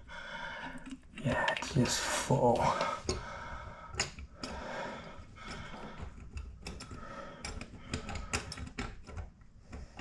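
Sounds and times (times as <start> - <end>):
clicks and scraping on metal drain: 0.5 - 10.0.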